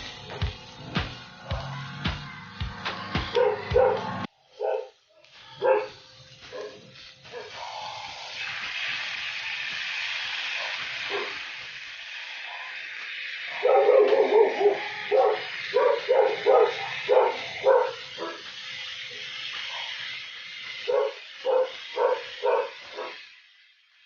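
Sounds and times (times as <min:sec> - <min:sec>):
meat sizzling on hot plate: 0:04.4 - 0:24.0.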